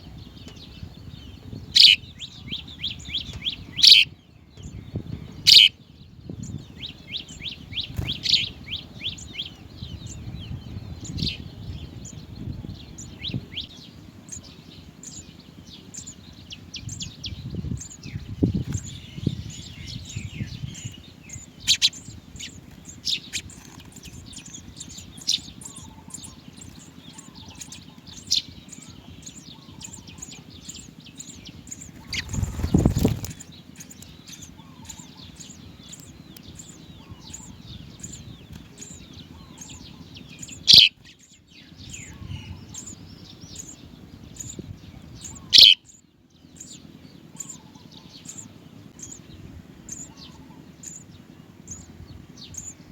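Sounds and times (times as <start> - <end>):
sparrows chirping: 0.0 - 52.9.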